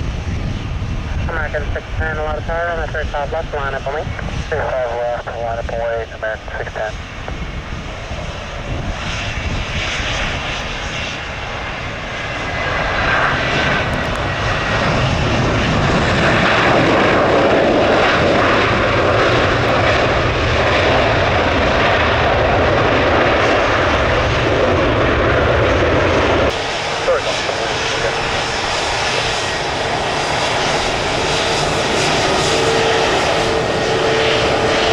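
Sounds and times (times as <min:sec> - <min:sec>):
jet engines roaring: 0:00.0 - 0:34.9
wind buffeting microphone: 0:00.0 - 0:34.9.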